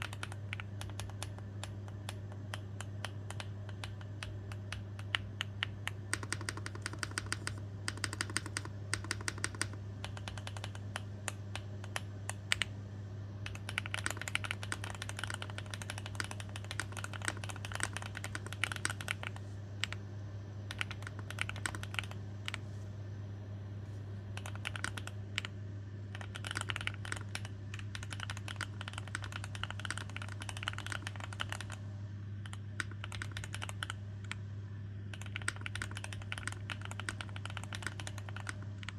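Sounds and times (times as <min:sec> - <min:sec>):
mechanical keyboard typing: 0:00.0 - 0:12.7, 0:13.4 - 0:20.0, 0:20.7 - 0:22.6, 0:24.4 - 0:25.5, 0:26.1 - 0:31.8, 0:32.4 - 0:34.4, 0:35.1 - 0:38.9
steady low hum: 0:00.0 - 0:38.9.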